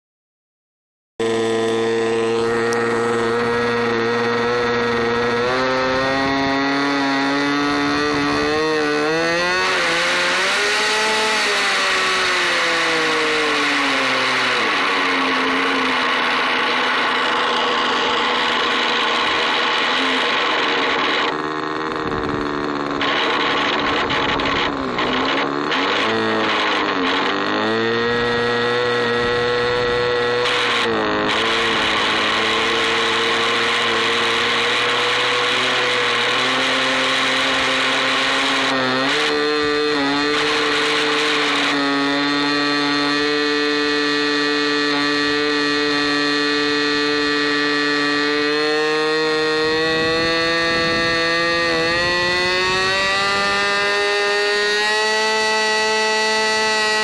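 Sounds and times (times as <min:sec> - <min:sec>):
model engine running: 0:01.2 - 0:57.0.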